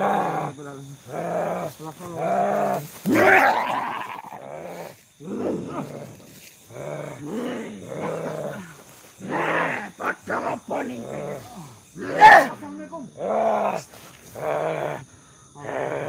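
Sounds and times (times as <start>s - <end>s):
man growling and groaning: 0.0s - 16.0s.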